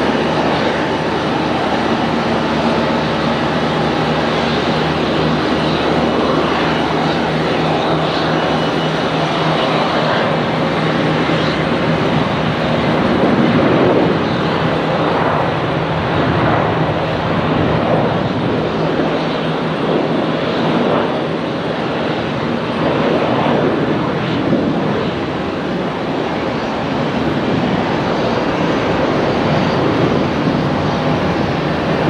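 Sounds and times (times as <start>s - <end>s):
airliner engines running: 0.0s - 32.0s.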